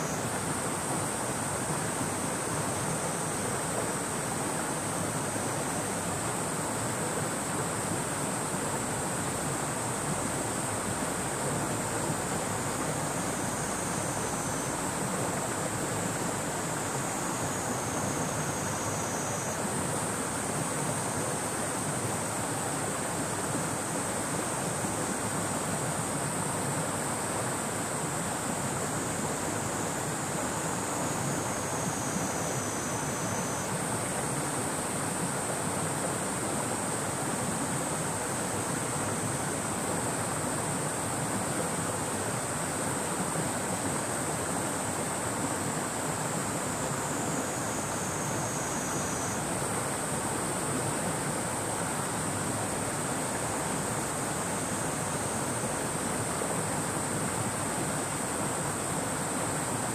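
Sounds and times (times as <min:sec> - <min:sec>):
cicadas droning: 0:00.0 - 0:59.9
river water rushing: 0:00.0 - 0:59.9.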